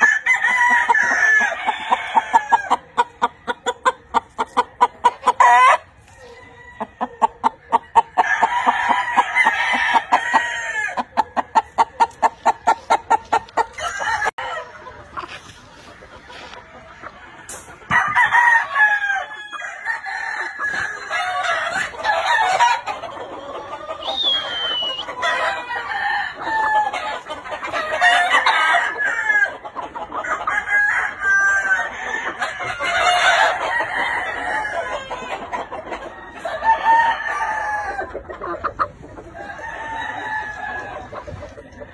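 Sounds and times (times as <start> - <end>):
roosters crowing: 0.0 - 15.3, 16.3 - 38.5, 39.3 - 41.9
chickens clucking: 0.0 - 41.9.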